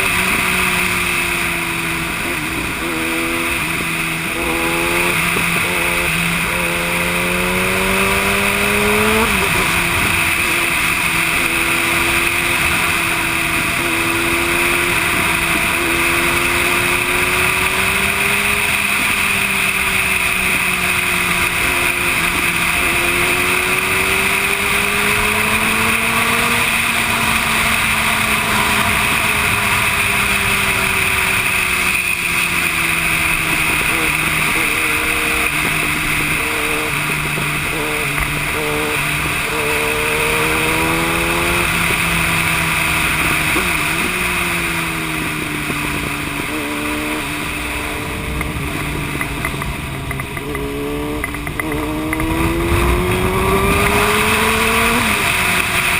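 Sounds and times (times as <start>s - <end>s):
motorcycle engine at speed: 0.0s - 55.9s.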